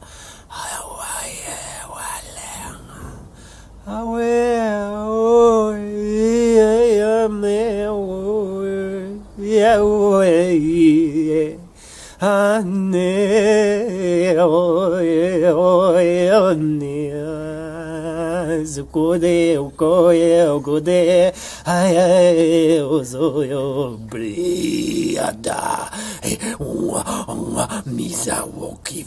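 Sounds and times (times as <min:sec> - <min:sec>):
person singing chant-like melody: 0:00.0 - 0:29.0.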